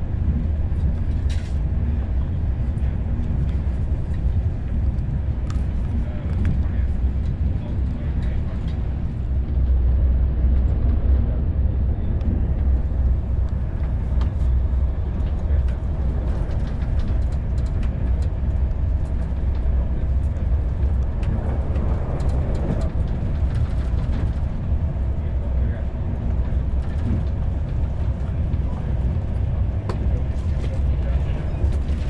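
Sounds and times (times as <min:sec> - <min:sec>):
train rumbling at speed: 0:00.0 - 0:32.0.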